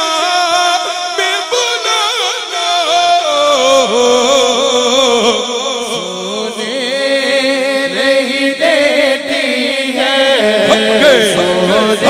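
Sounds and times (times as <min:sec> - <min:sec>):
held vocal drone: 0:00.0 - 0:12.0
man singing into a microphone: 0:00.0 - 0:12.0.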